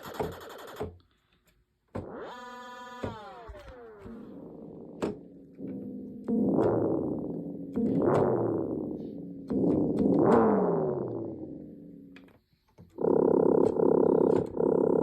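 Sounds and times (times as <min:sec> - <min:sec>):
synthesizer repeated chords: 0:02.0 - 0:15.0
synthesizer notes sliding in pitch: 0:02.1 - 0:12.3, 0:13.0 - 0:15.0.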